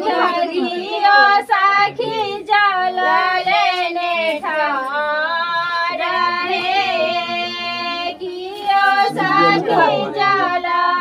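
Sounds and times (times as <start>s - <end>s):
women singing unaccompanied: 0.0s - 11.0s.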